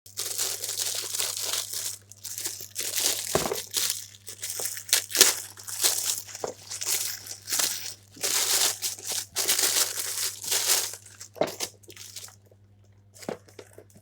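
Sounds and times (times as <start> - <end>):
packaging crinkling and rustling: 0.1 - 12.6.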